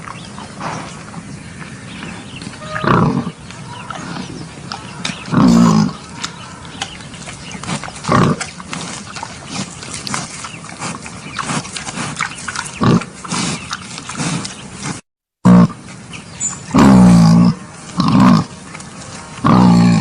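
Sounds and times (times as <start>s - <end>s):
wild boar grunting: 0.0s - 16.0s, 16.6s - 20.0s.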